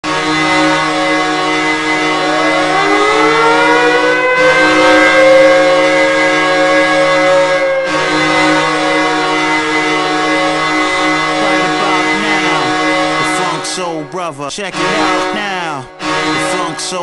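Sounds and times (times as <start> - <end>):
air-raid siren: 0.0 - 17.0
goal horn blaring: 0.0 - 17.0.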